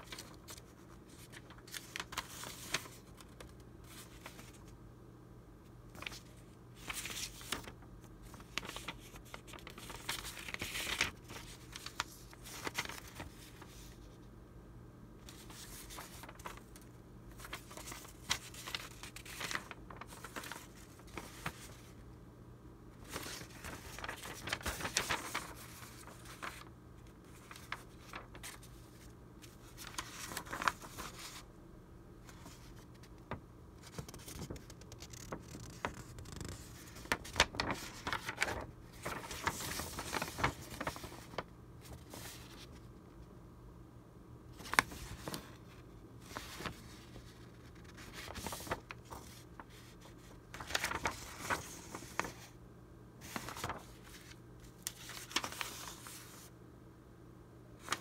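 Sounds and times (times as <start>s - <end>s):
paper rustling and crinkling: 0.0s - 4.8s, 5.8s - 14.2s, 15.2s - 22.0s, 23.0s - 31.5s, 32.2s - 43.0s, 44.5s - 52.6s, 53.2s - 56.5s, 57.8s - 58.0s.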